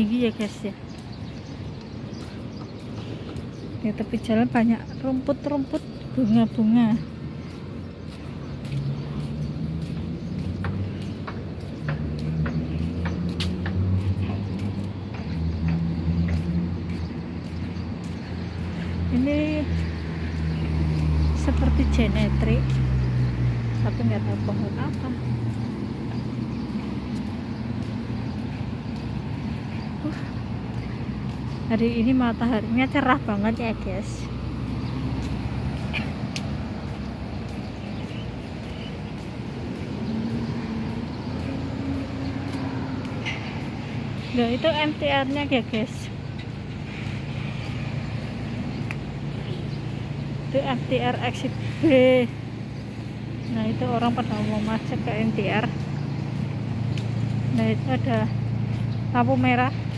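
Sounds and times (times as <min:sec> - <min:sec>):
road traffic: 0:00.0 - 0:59.9
vehicle engine humming: 0:00.0 - 0:59.9.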